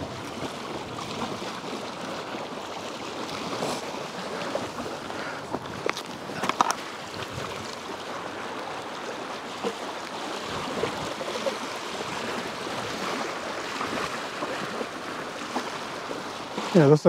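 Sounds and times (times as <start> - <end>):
surf washing on beach: 0.0 - 17.0
wind: 0.0 - 17.0.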